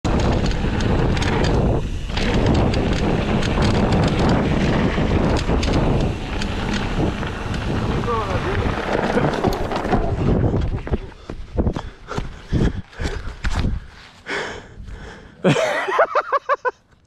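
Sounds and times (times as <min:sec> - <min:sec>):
mountain bike rattling: 0:00.0 - 0:13.8
wind noise on microphone: 0:00.0 - 0:15.2.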